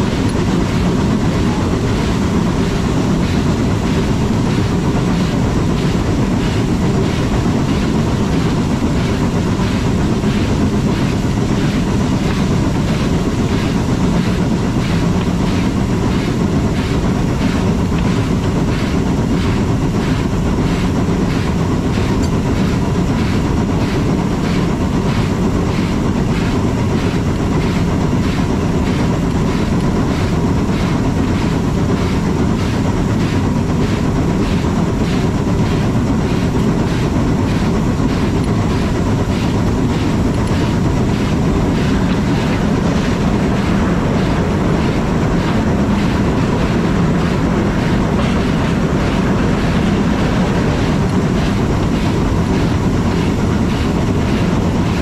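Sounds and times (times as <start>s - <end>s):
steam locomotive rhythmic rumble: 0.0s - 55.0s.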